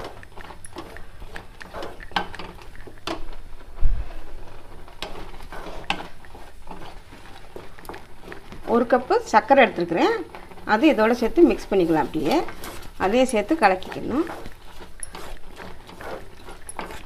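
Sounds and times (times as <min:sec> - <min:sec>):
spatula scraping pan: 0:00.0 - 0:17.0.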